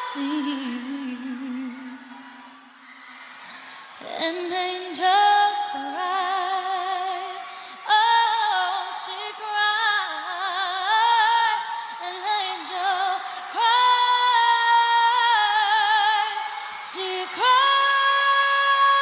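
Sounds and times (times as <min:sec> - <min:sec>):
woman singing a cappella: 0:00.0 - 0:02.6, 0:04.0 - 0:19.0.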